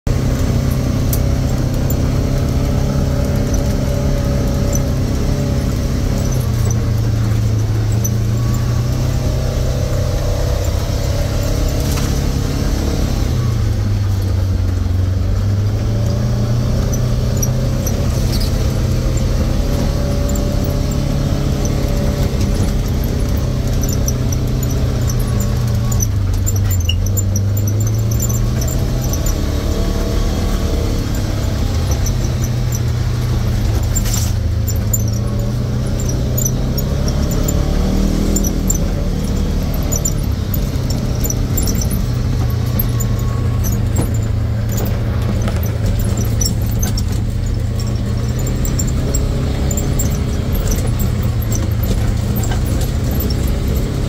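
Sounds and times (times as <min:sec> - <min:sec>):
utility vehicle engine running: 0:00.0 - 0:54.0
light high squeaks: 0:00.4 - 0:14.6, 0:15.5 - 0:54.0.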